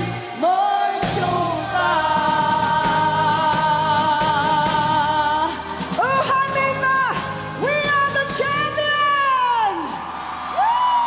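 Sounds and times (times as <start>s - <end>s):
backing band: 0.0s - 9.4s
woman singing pop song: 0.0s - 10.0s.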